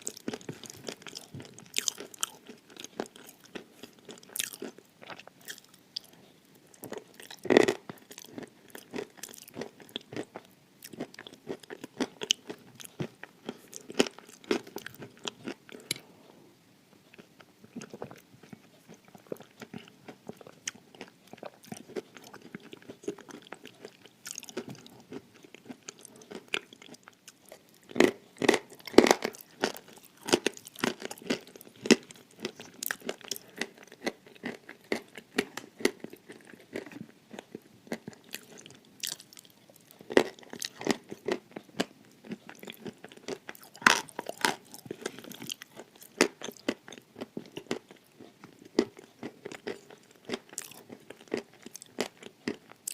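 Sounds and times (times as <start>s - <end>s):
person chewing crunchy clay: 0.0s - 16.1s, 17.1s - 52.9s.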